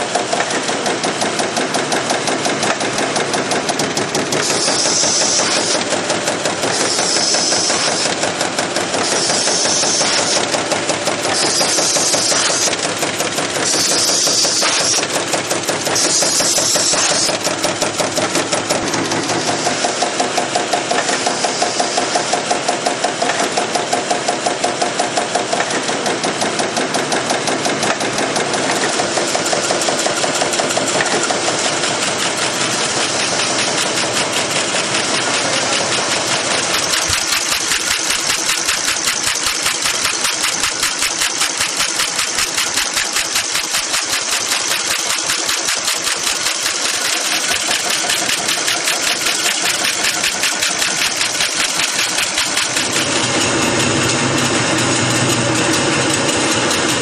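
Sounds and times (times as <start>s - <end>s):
machinery clattering: 0.0s - 57.0s.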